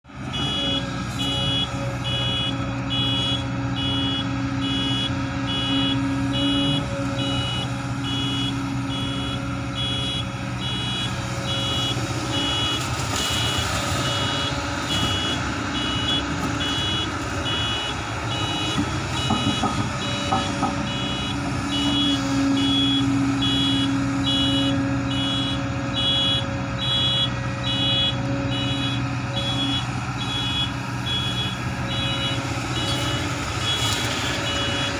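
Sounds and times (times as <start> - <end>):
diesel machinery engine hum: 0.0 - 34.9
backup alarm beeping: 0.4 - 34.9.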